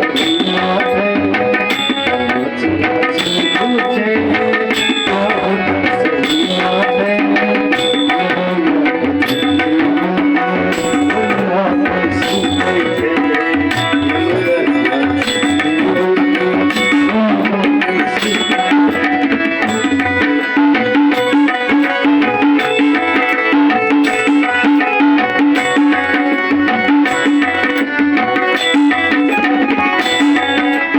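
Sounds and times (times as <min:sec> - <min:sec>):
tabla playing fast rhythm: 0:00.0 - 0:30.9
sustained melodic instrument tones: 0:02.6 - 0:30.9.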